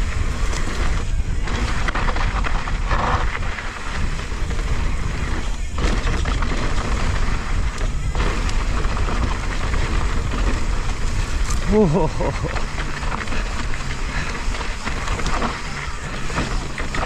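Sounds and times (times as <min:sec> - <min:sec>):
low rumble of bike tyres: 0:00.0 - 0:17.0.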